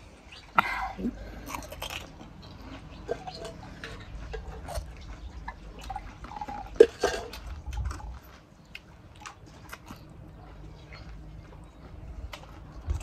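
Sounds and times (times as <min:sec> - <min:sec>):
crunchy eating and mouth sounds: 0:00.0 - 0:13.0.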